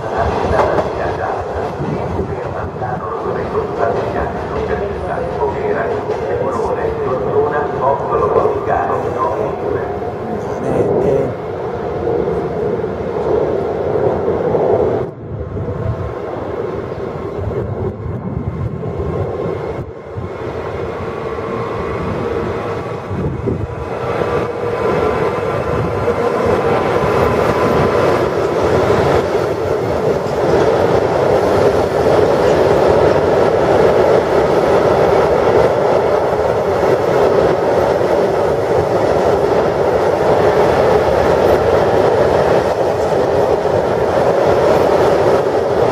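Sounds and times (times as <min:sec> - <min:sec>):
freight train wheels rumbling: 0:00.0 - 0:45.9.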